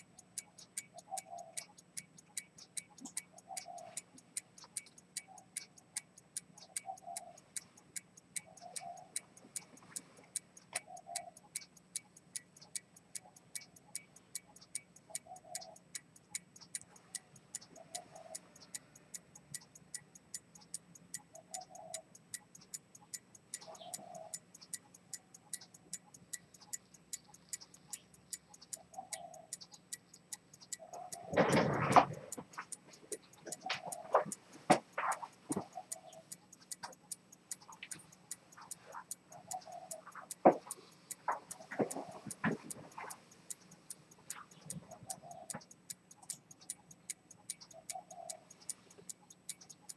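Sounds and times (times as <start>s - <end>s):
pocket watch ticking fast: 0.0s - 49.9s.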